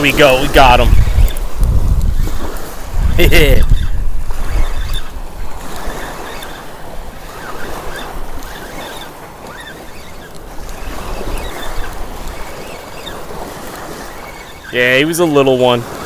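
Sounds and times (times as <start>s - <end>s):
wind rumbling on microphone: 0.0s - 14.8s
small waves washing on shore: 0.0s - 16.0s.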